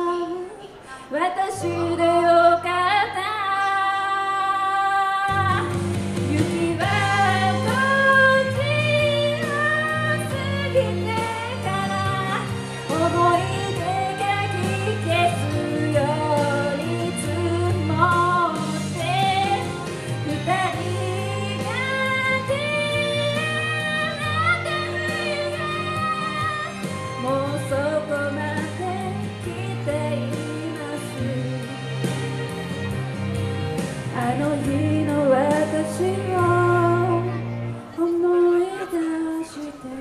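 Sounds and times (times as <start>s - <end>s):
woman singing into microphone: 0.0s - 32.2s, 34.1s - 40.0s
instrumental backing with bass: 5.3s - 38.0s.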